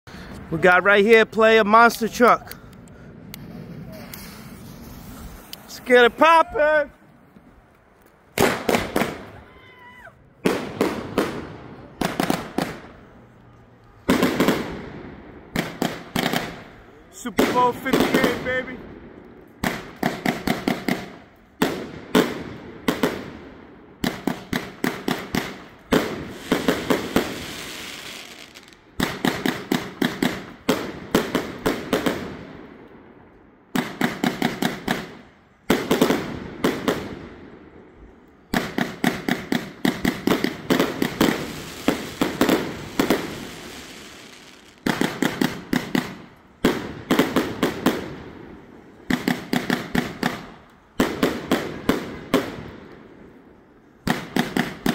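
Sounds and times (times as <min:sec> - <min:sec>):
firework cake firing: 0:01.6 - 0:06.9, 0:08.3 - 0:32.8, 0:38.3 - 0:53.1.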